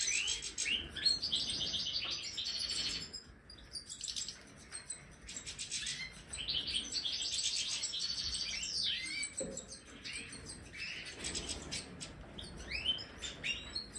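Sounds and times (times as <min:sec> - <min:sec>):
finches twittering and calling: 0:00.0 - 0:13.9.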